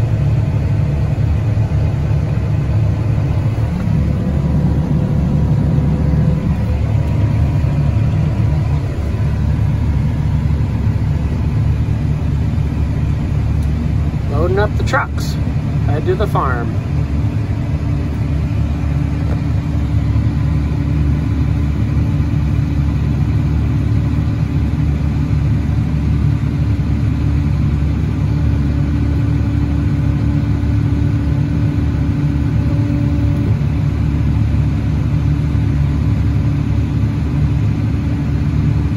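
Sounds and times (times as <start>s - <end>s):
steady hum: 0.0s - 38.9s
truck engine running: 0.0s - 38.9s.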